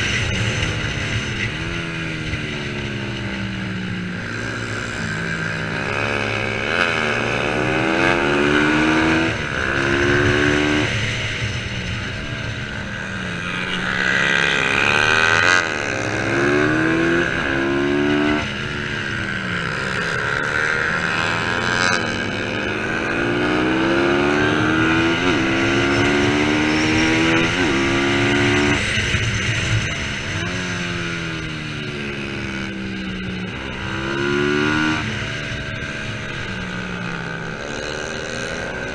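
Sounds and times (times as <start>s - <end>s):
racing motorcycle engines revving: 0.0s - 38.9s.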